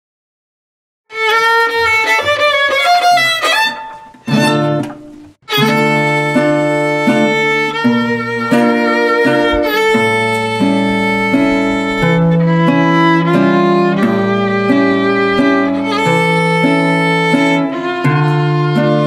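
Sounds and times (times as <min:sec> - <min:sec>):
violin melody: 0:01.1 - 0:19.0
acoustic guitar chords: 0:01.8 - 0:19.0.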